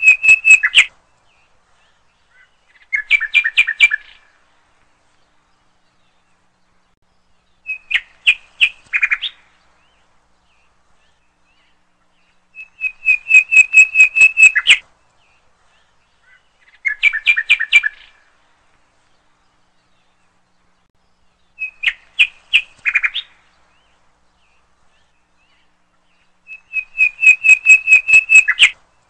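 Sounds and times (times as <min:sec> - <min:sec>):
small bird chirping: 0:00.0 - 0:04.4, 0:05.1 - 0:18.4, 0:19.0 - 0:29.0.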